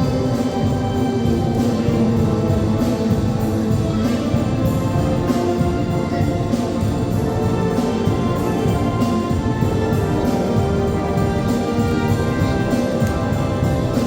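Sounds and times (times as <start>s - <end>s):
drum and cymbal strokes: 0.0s - 14.0s
wind band playing held notes: 0.0s - 14.0s.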